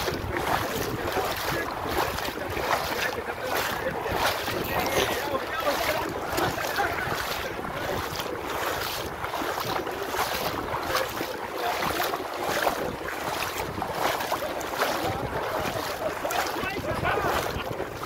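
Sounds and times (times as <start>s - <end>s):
water sloshing around wading legs: 0.0s - 18.0s
wind buffeting microphone: 0.0s - 18.0s.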